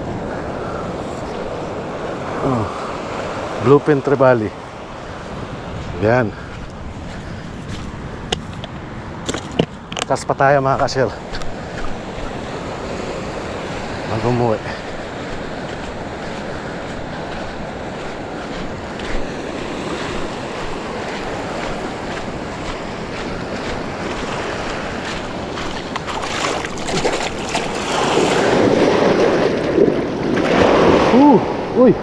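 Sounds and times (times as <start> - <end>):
surf washing up beach: 0.0 - 32.0
wind buffeting microphone: 0.0 - 32.0.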